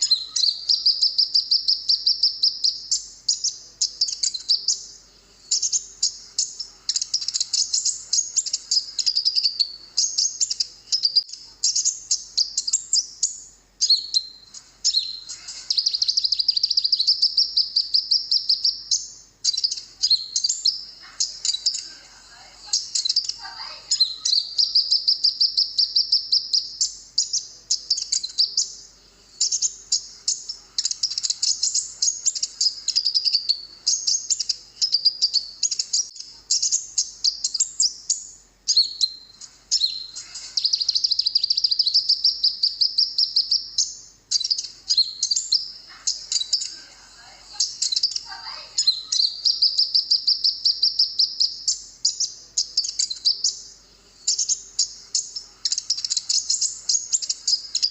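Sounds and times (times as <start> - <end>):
bird singing: 0.0 - 57.9.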